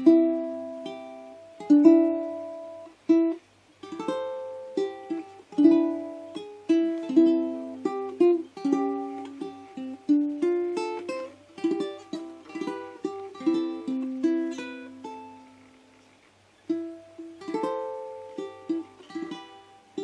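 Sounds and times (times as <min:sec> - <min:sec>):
ukulele fingerpicking and strumming: 0:00.0 - 0:20.0.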